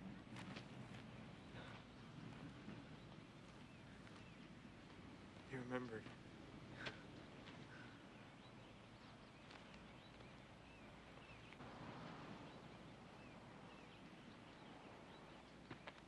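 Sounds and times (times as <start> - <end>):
small birds chirping: 0.9 - 16.0.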